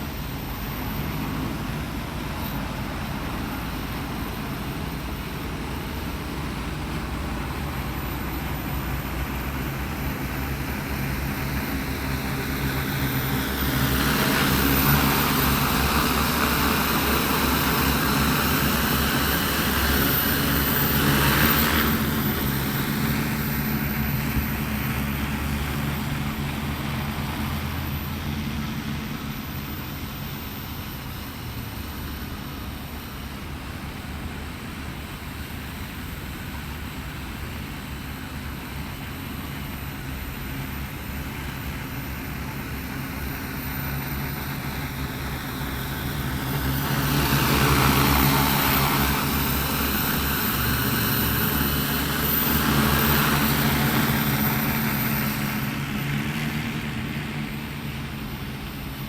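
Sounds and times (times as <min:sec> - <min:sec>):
drone rotors humming: 0:00.0 - 0:59.0.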